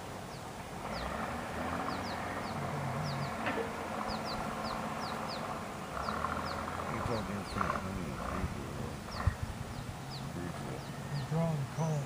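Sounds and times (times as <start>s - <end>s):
steady background noise: 0.0s - 12.0s
small bird chirping: 0.2s - 12.0s.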